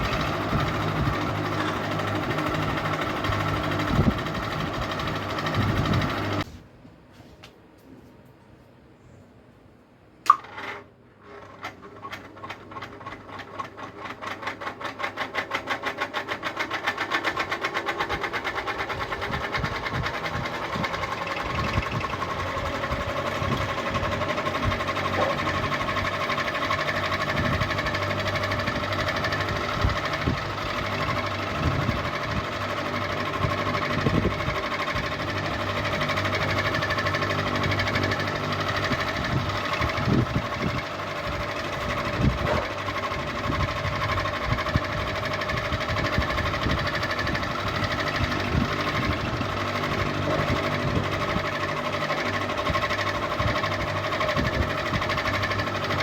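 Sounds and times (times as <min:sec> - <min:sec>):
ceiling fan whirring: 0:00.0 - 0:56.0.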